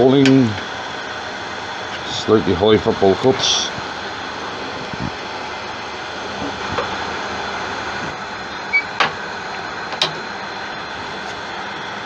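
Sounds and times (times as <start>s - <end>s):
wood lathe cutting hiss: 0.0s - 12.0s.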